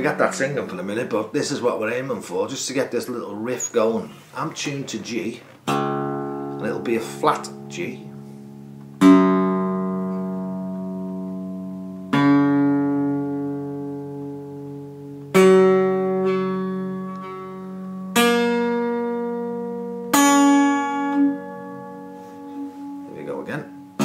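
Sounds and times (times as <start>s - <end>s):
acoustic guitar chord strummed: 0.0s - 2.3s, 5.2s - 24.0s.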